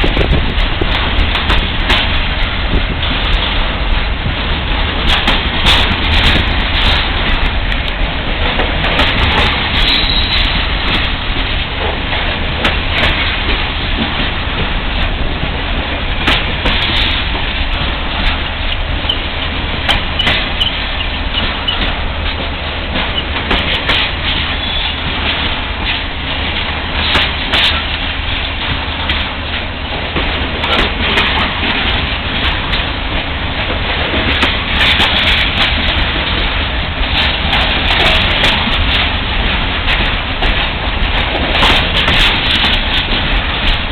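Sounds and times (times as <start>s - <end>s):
train clicks and clanks: 0.0s - 43.9s
train wheels rumbling on rail: 0.0s - 43.9s.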